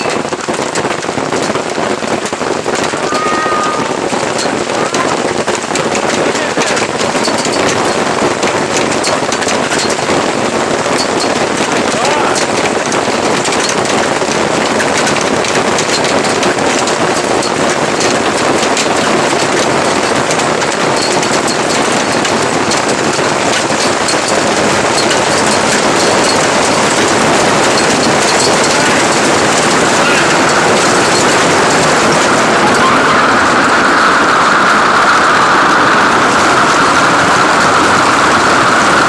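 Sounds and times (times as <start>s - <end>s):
hailstones pounding: 0.0s - 39.0s.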